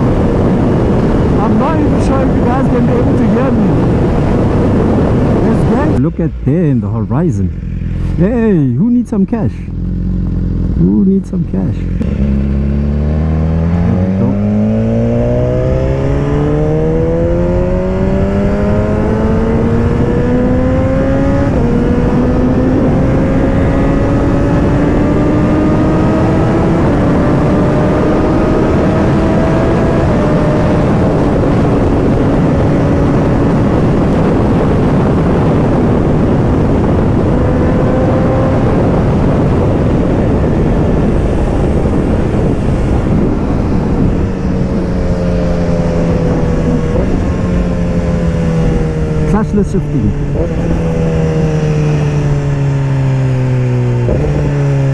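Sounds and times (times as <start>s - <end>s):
wind noise: 0.0s - 54.9s
motorcycle engine pulling hard: 9.4s - 54.9s.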